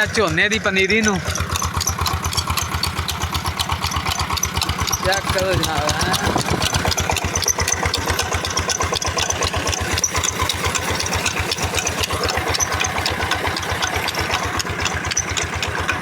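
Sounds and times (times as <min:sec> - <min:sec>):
diesel engine thudding: 0:00.0 - 0:16.0.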